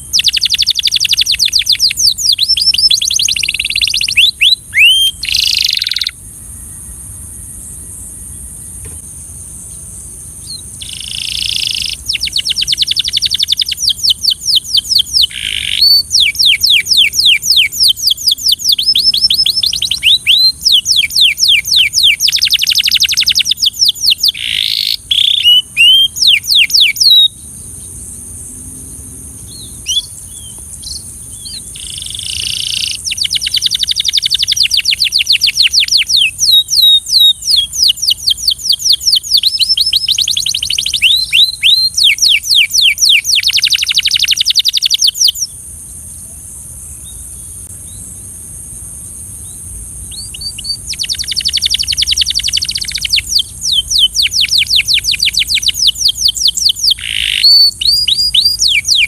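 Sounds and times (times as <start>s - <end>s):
canary singing trills: 0.0s - 7.0s, 9.7s - 28.0s, 29.3s - 45.6s, 49.4s - 59.0s
steady high hiss: 0.0s - 59.0s.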